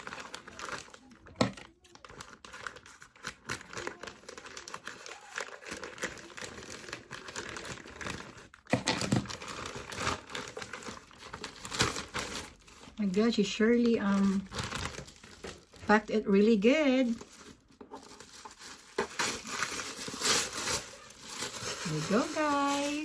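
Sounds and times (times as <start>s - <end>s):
packing material tearing: 0.0s - 13.1s, 13.8s - 15.8s, 17.0s - 23.0s
packing material crinkling: 0.0s - 23.0s.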